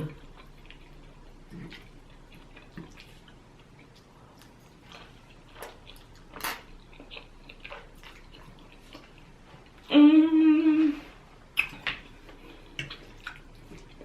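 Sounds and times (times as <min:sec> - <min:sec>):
person chewing food: 0:00.0 - 0:09.9, 0:11.2 - 0:14.0.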